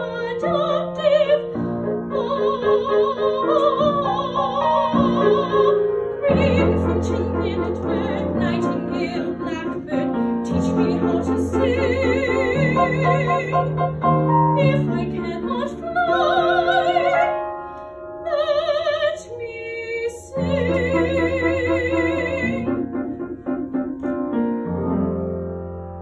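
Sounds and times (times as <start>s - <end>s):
soprano singing with vibrato: 0.0s - 17.4s, 18.2s - 22.9s
piano accompaniment: 0.0s - 26.0s.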